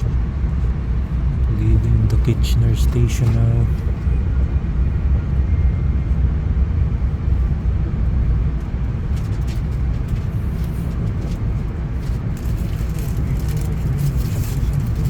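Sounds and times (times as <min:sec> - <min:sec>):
train coach rumble: 0:00.0 - 0:15.0.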